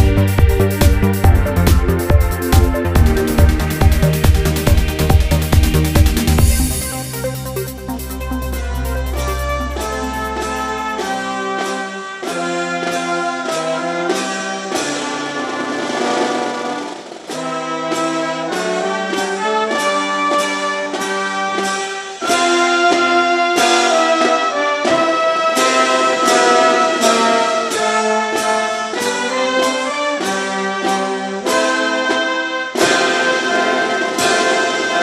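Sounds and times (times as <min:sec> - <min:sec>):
brass band playing: 0:00.0 - 0:35.0.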